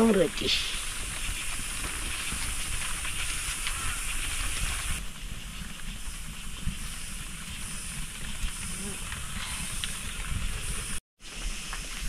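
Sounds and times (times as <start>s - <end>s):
faint crackles: 0.0s - 12.0s
steady hissing noise: 0.0s - 12.0s.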